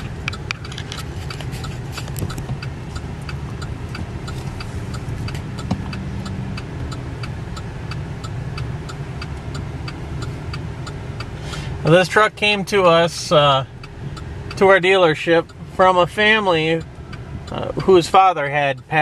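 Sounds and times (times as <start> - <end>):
sharp regular ticking: 0.0 - 19.0
truck engine low rumble: 0.0 - 19.0.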